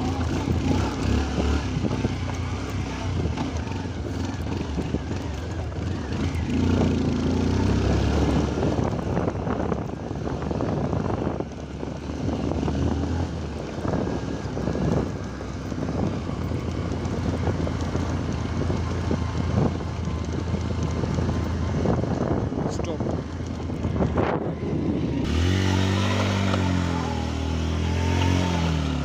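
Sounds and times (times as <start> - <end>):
vehicle engine running: 0.0 - 29.0
wind buffeting microphone: 0.0 - 29.0.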